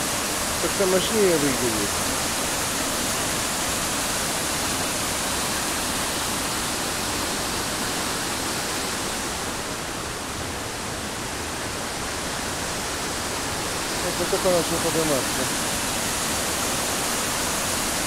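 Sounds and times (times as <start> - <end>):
waterfall rushing roar: 0.0 - 18.0.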